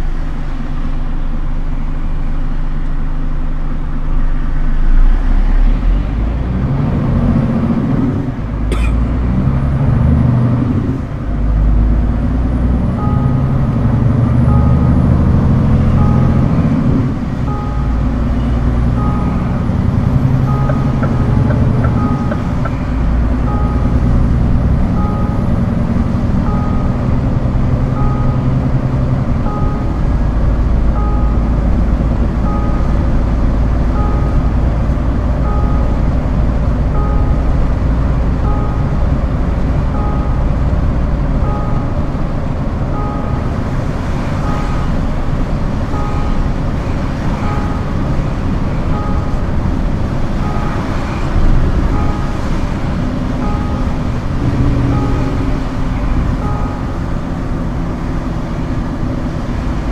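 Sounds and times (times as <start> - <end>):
truck diesel engine running: 0.0 - 59.9
reversing alarm beeping: 9.6 - 59.8.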